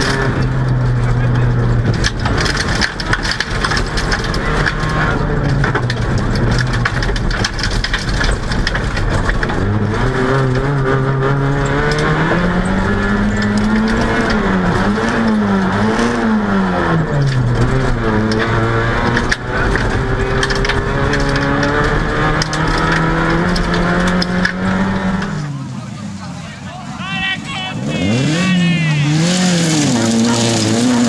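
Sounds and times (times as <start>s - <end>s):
gravel clattering against car: 0.0s - 26.6s, 29.1s - 31.0s
rally car engine revving: 0.0s - 31.0s.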